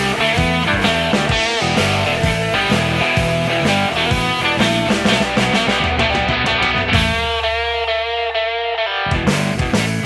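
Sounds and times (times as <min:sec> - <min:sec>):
blues-rock band instrumental: 0:00.0 - 0:10.0
lead guitar with bent notes: 0:00.0 - 0:10.0.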